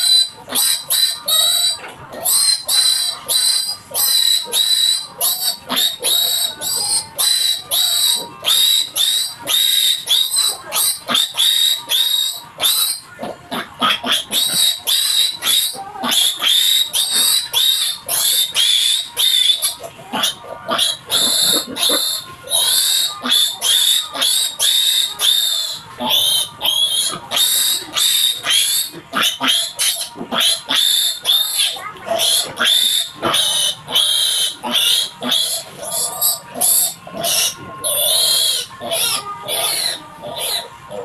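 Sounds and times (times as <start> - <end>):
piglet squealing: 0.0 - 41.0.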